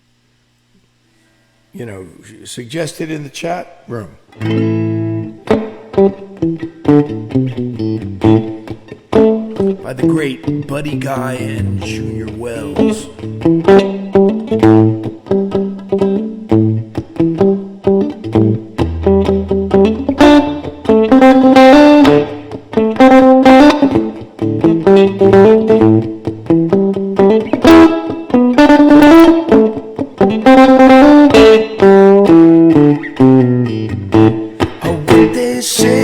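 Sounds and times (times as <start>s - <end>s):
electric guitar blues riff: 4.2s - 36.0s.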